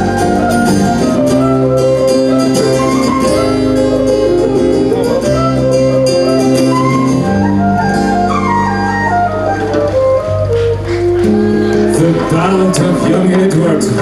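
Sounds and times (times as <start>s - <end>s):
bass line: 0.0s - 14.0s
flute melody: 0.0s - 14.0s
strummed acoustic guitars: 0.0s - 14.0s.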